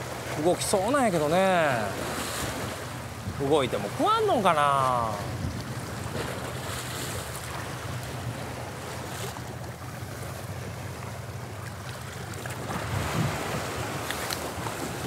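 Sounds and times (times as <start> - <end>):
waves washing on rocky shore: 0.0 - 9.6, 12.2 - 15.0
wind: 0.0 - 15.0.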